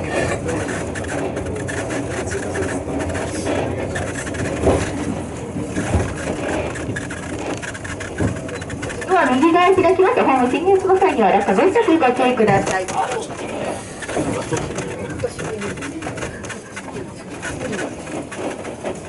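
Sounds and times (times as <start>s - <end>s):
train engine and wheel rumble: 0.0s - 19.0s.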